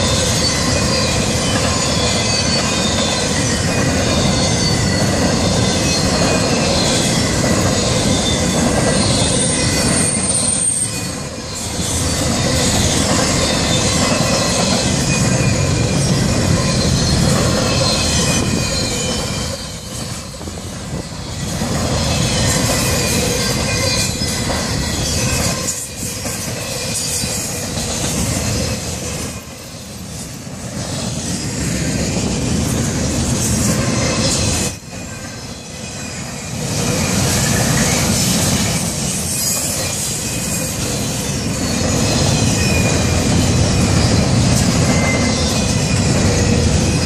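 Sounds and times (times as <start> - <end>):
high-pitched wheel squeal: 0.0 - 29.9, 33.6 - 47.0
freight cars rolling on rails: 0.0 - 47.0.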